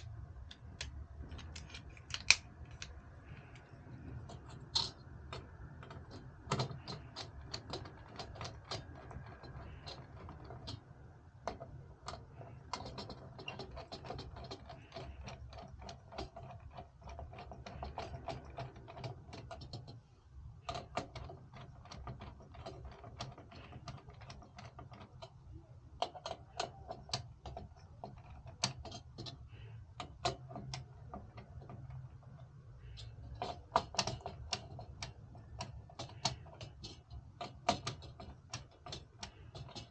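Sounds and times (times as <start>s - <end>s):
hardware clicking and rattling: 0.0s - 39.9s
steady low hum: 0.0s - 39.9s.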